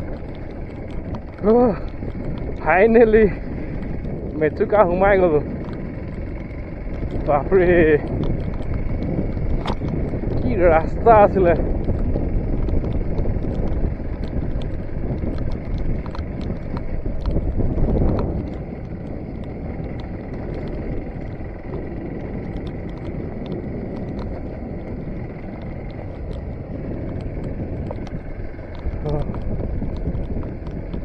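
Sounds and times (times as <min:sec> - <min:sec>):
clicks and rattles: 0:00.0 - 0:31.0
motorcycle engine running: 0:00.0 - 0:31.0.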